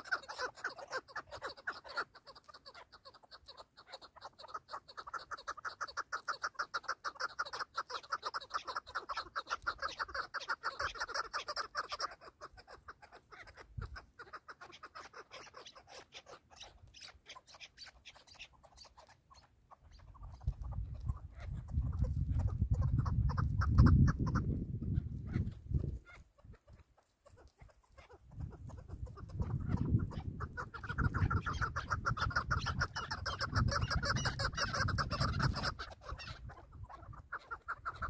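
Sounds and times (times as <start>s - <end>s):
partridge clucking calls: 0.0s - 38.0s.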